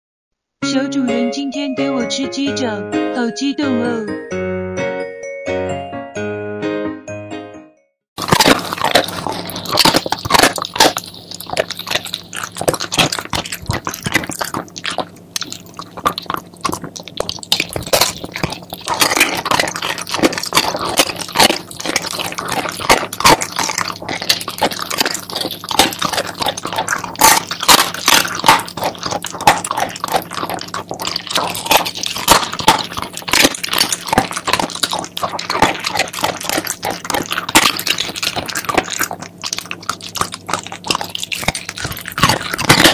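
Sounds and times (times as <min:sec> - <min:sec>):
dog crunching on bone: 0:08.2 - 0:42.9.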